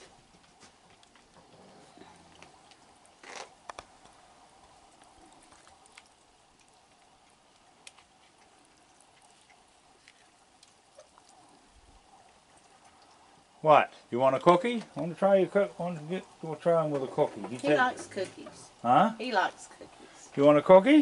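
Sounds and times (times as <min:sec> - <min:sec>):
rustle: 0:00.0 - 0:21.0.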